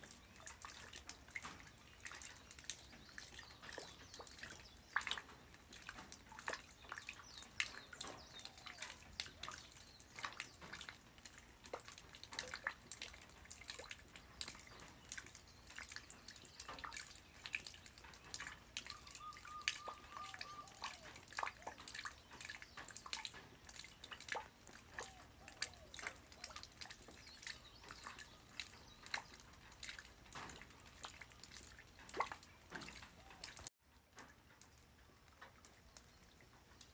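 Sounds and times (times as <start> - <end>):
light rain dripping: 0.0 - 36.9.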